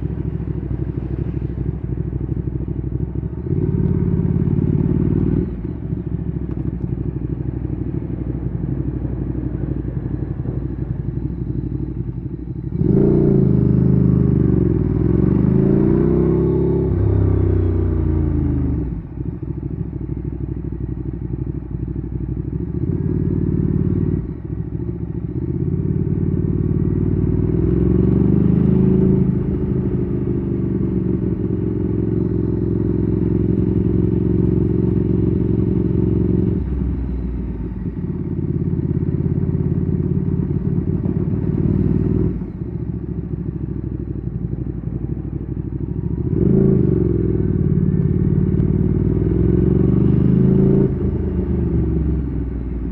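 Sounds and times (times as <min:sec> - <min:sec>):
motorcycle engine revving: 0:00.0 - 0:06.4, 0:07.1 - 0:52.9.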